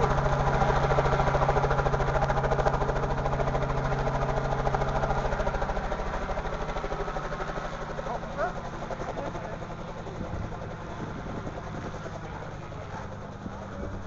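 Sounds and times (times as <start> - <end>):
helicopter engine hum: 0.0 - 14.0
helicopter rotor beating: 0.0 - 14.0.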